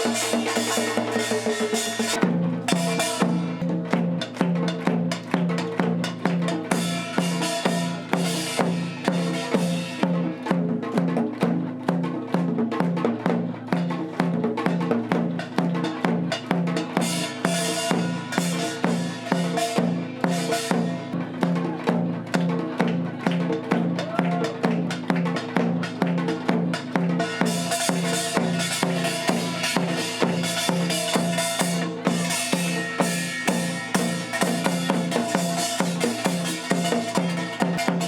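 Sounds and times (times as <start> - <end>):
drum beat: 0.0 - 11.2, 11.8 - 38.0.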